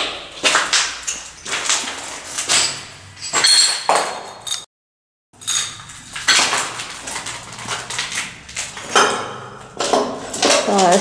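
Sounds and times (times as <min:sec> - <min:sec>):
footsteps crunching on porcelain shards: 0:00.0 - 0:04.7, 0:05.4 - 0:11.0.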